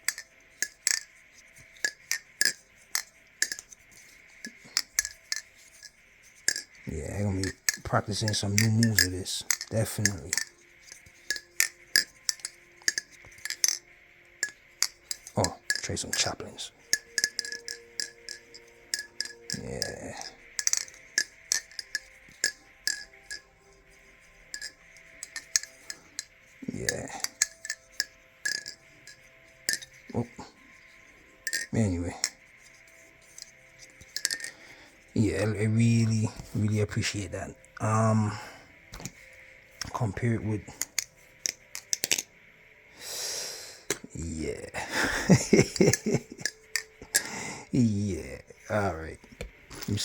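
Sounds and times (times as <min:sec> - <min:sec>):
butterfly knife metallic clacks: 0:00.0 - 0:42.3, 0:45.1 - 0:47.5.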